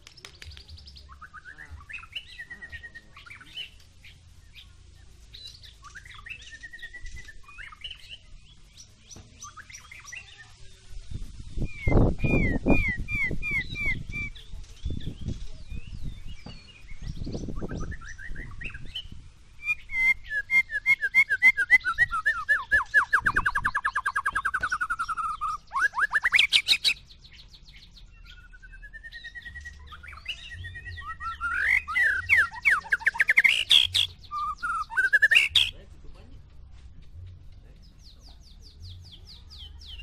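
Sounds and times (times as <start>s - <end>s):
bird singing: 0.0s - 10.6s, 11.6s - 36.4s.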